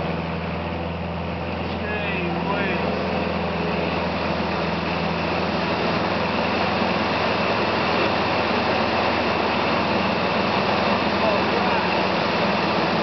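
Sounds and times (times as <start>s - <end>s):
light aircraft engine droning: 0.0s - 13.0s
rushing airflow: 0.0s - 13.0s.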